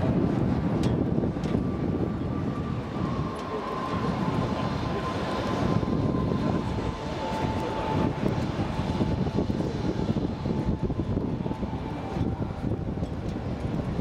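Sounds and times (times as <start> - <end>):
firework fountains roaring: 0.0 - 14.0.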